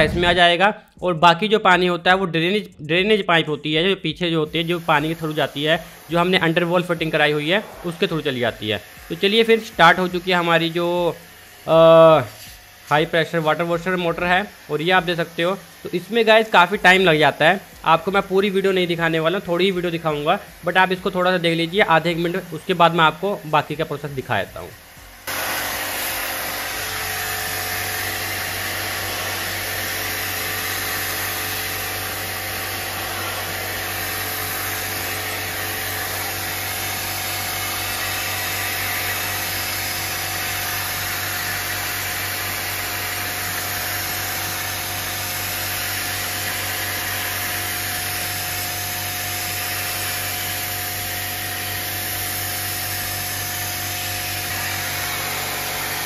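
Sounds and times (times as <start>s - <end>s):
water jet hissing: 4.2s - 56.0s
pump motor humming: 4.5s - 56.0s.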